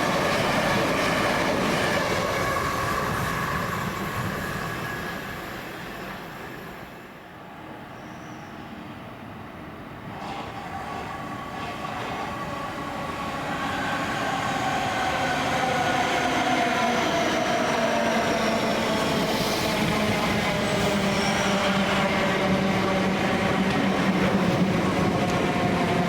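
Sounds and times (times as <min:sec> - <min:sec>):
train running past: 0:00.0 - 0:26.0.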